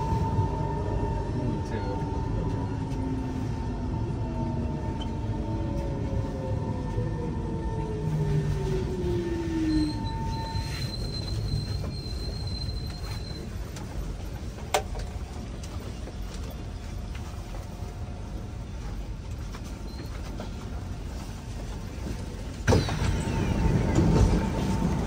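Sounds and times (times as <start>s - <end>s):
train rumbling and humming: 0.0s - 25.0s.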